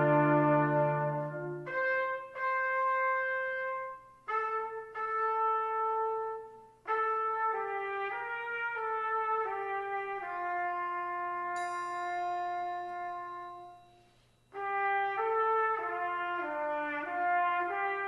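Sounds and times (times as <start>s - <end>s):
brass instruments playing: 0.0s - 18.0s.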